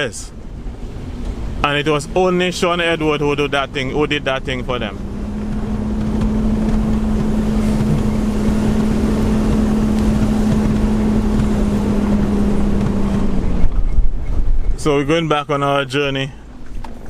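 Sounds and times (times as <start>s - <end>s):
vehicle engine drone: 0.0s - 15.3s
road and wind noise: 0.0s - 17.0s.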